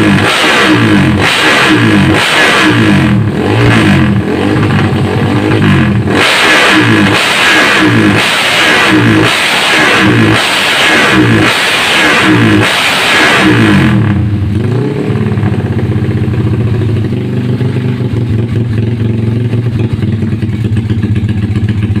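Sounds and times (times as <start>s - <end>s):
motorcycle engine revving and idling: 0.0s - 22.0s.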